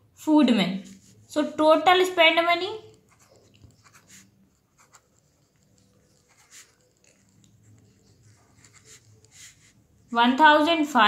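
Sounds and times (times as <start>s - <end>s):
pen scratching on paper: 0.8s - 10.8s.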